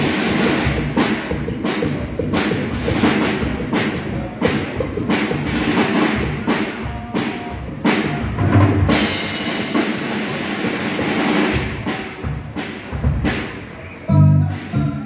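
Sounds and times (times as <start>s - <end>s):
drum hits: 0.0s - 15.0s
live band playing: 0.0s - 15.0s.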